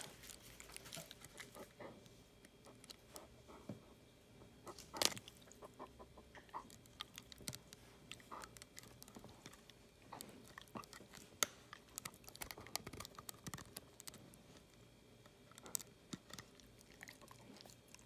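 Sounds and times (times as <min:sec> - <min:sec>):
dog chewing on plastic: 0:00.0 - 0:03.7, 0:04.6 - 0:18.0.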